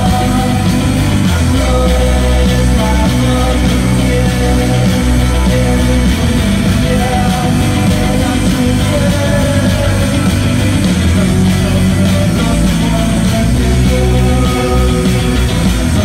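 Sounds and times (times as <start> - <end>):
bass guitar: 0.0 - 16.0
drum kit: 0.0 - 16.0
electric guitars: 0.0 - 16.0
keyboard: 0.0 - 16.0.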